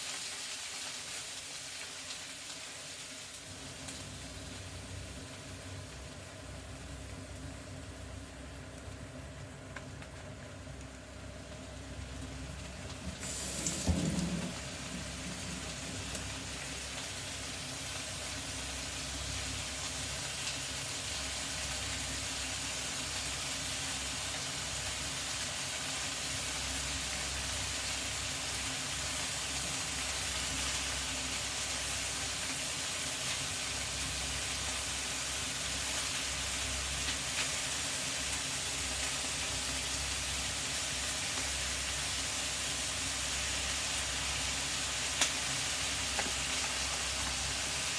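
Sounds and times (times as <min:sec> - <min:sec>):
mushrooms sizzling in a frying pan: 0:00.0 - 0:47.9.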